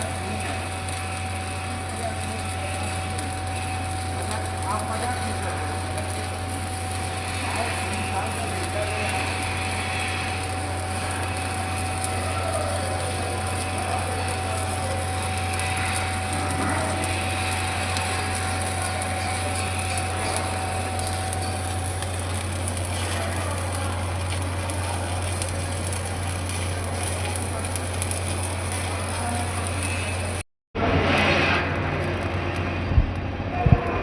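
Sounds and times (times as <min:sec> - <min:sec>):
welding crackling hiss: 0:00.0 - 0:33.2
low machine hum: 0:00.0 - 0:34.0
thin steady whine: 0:00.0 - 0:34.0.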